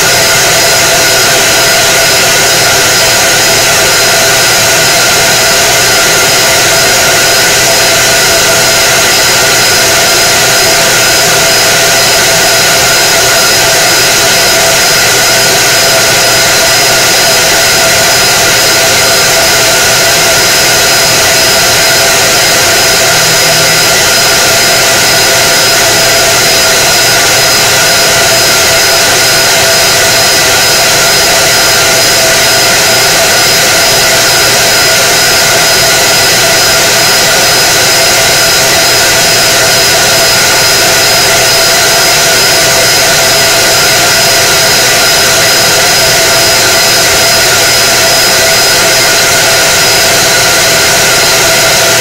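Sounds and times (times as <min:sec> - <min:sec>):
laser cutter blower whir: 0:00.0 - 0:52.0.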